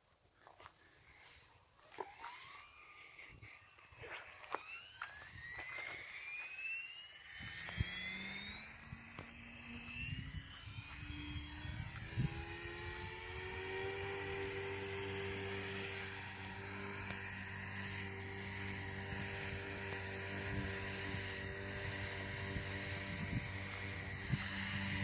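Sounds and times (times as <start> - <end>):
electric motor whine rising: 1.0 - 25.0
rotor hum: 1.1 - 25.0.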